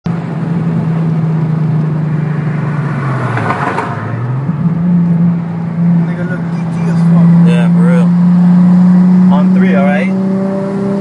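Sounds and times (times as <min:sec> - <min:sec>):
car engine droning: 0:00.1 - 0:11.0.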